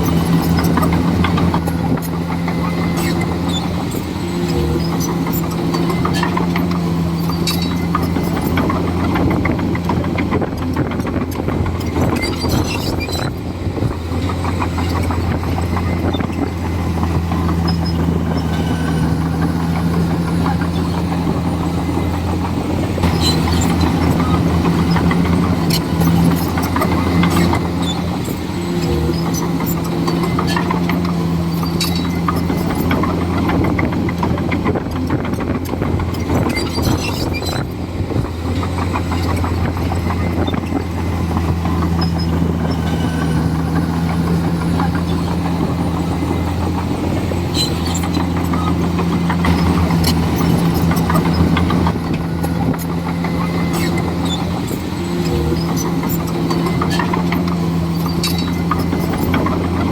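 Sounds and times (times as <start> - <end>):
bulldozer diesel engine running: 0.0 - 59.9
sharp clicks and clanks: 4.8 - 59.9.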